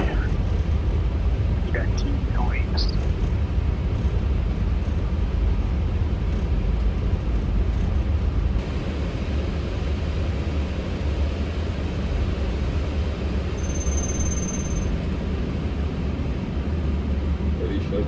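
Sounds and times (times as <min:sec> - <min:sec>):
jet engines idling rumble: 0:00.0 - 0:18.0.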